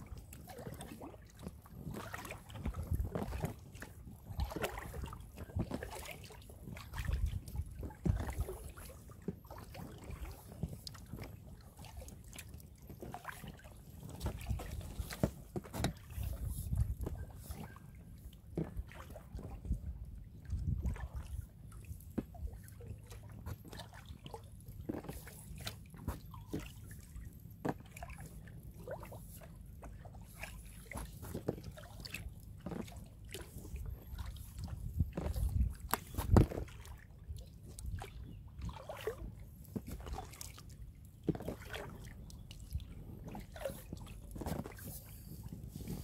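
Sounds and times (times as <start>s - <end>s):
small splashes and knocks: 0.0s - 46.0s
water sloshing and dripping: 0.0s - 46.0s.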